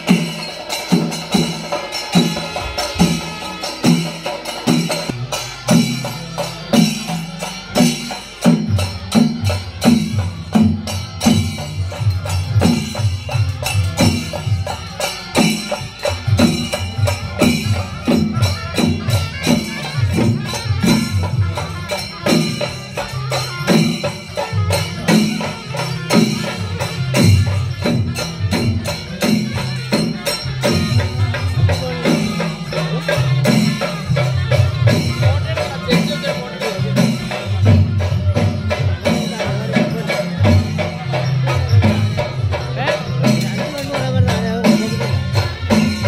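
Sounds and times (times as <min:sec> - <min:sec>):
drums beaten in steady rhythm: 0:00.0 - 0:46.0
hand cymbals ringing: 0:00.0 - 0:46.0.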